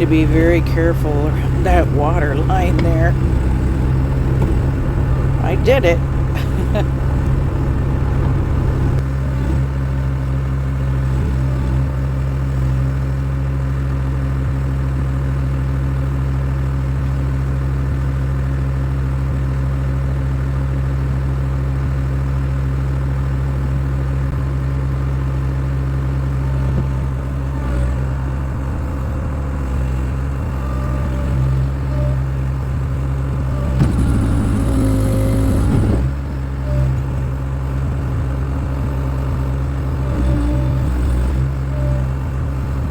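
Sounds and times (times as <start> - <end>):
skid steer engine running: 0.0 - 42.9.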